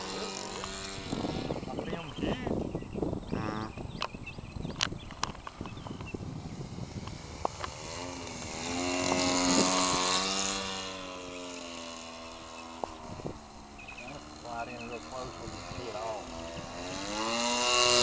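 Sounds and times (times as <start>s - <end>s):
model plane engine buzz flyby: 0.0s - 18.0s.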